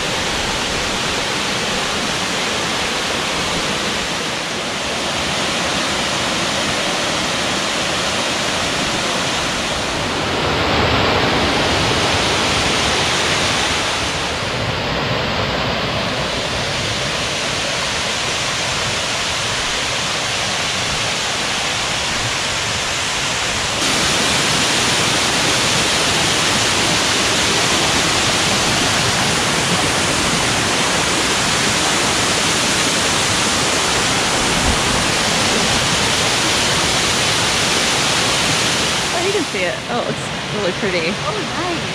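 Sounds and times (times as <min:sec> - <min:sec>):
waterfall rushing water: 0:00.0 - 0:41.9.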